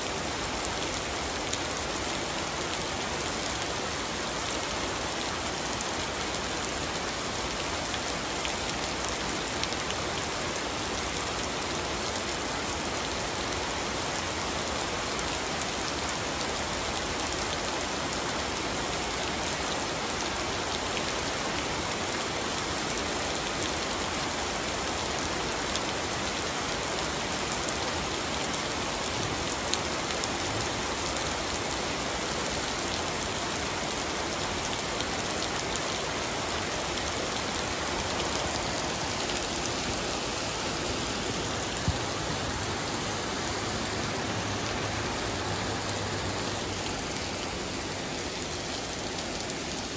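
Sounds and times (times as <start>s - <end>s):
rain on tile roof and pool: 0.0s - 49.9s.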